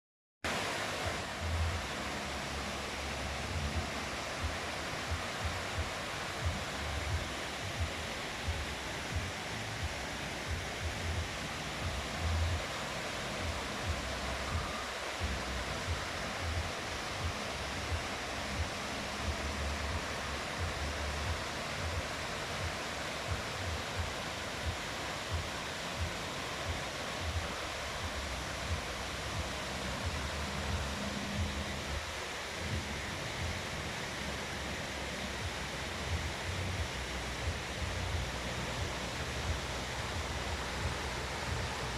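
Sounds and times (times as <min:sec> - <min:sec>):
river water rushing: 0:00.5 - 0:41.9.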